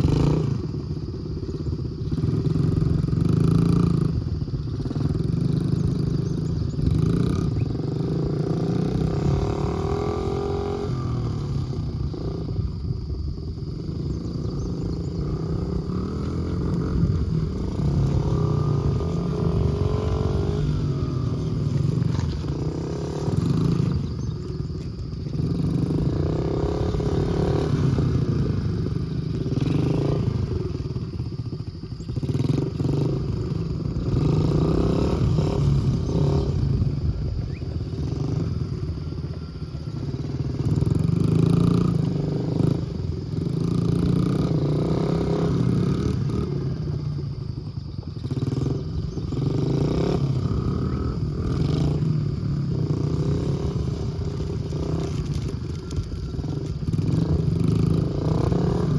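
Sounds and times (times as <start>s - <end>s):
dirt bike engines revving: 0.0s - 58.9s.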